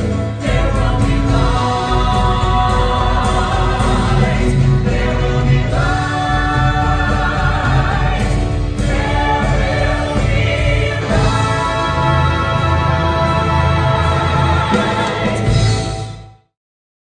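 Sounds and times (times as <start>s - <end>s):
voices singing together: 0.0s - 16.1s
instrumental accompaniment: 0.0s - 16.4s.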